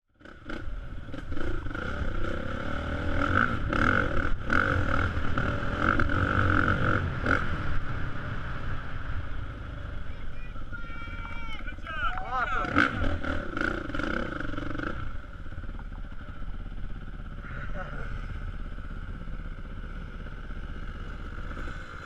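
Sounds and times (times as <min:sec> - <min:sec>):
dirt bike engines running: 0:00.1 - 0:22.0.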